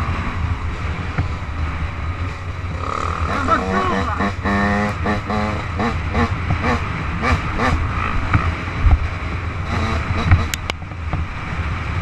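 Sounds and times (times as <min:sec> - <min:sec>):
off-road engines revving: 0:00.0 - 0:10.8.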